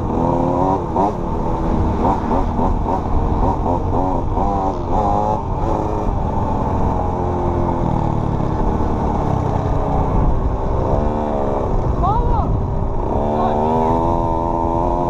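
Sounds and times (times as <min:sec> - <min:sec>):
dirt bike engine revving: 0:00.0 - 0:15.0
wind rumble on microphone: 0:00.0 - 0:15.0.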